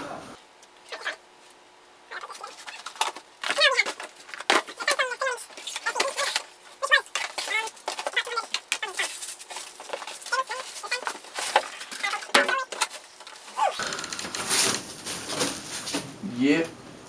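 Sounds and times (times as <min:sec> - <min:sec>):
plastic and cardboard packaging crackling: 0:02.1 - 0:16.1.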